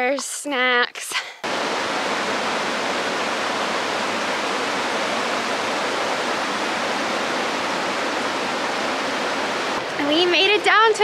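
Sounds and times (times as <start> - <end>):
river water rushing over rocks: 1.4 - 10.7.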